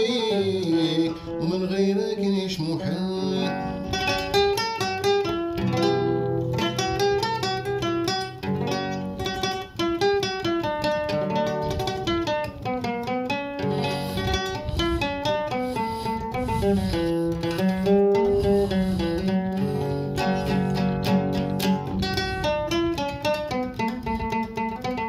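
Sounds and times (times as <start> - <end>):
classical guitar melody: 0.0 - 25.0.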